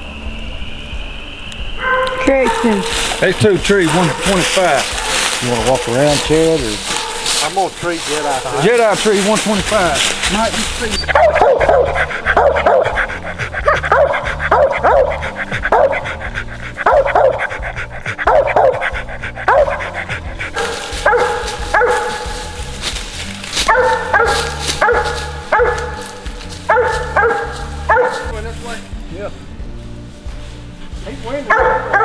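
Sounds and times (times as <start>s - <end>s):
dogs barking: 1.8s - 28.8s, 30.8s - 32.0s.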